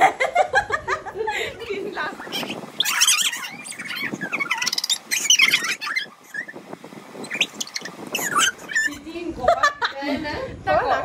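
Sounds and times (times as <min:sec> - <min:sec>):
women squealing and giggling: 0:00.2 - 0:06.6, 0:07.3 - 0:10.8.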